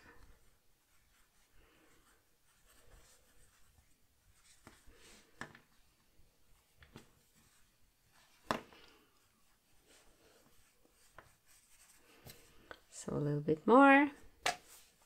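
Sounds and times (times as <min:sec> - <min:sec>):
faint rustling of toy stuffing: 0:00.0 - 0:15.0.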